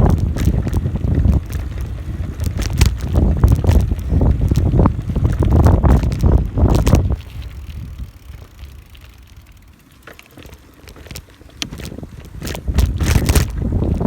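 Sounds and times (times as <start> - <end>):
wind buffeting microphone: 0.0 - 9.7, 11.6 - 14.0
bicycle rolling noise: 0.0 - 14.0
light clicks and rattles: 0.0 - 14.0.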